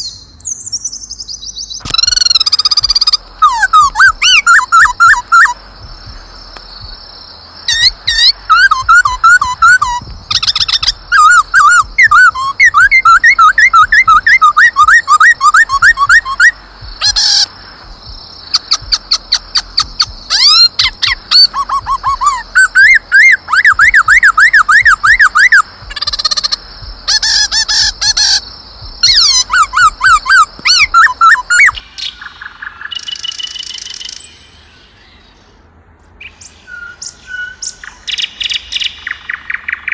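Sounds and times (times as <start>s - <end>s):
songbird chirping and whistling: 0.0s - 39.9s.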